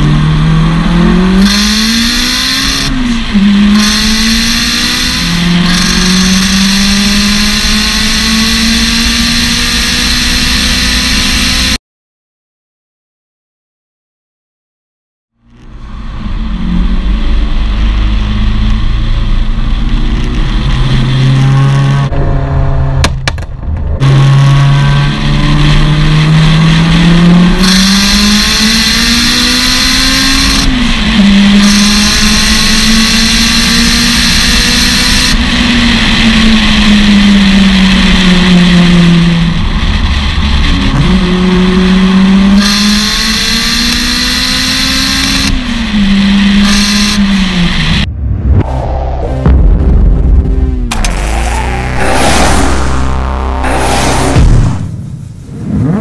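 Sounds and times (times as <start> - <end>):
car engine accelerating hard: 0.0 - 11.8, 15.4 - 23.1, 24.0 - 56.0.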